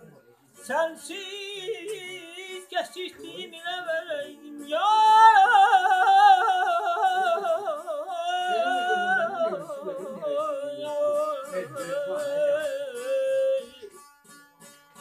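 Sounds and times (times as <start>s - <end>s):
plucked string instrument: 0.0s - 15.0s
man singing with vocal trills: 0.6s - 14.4s.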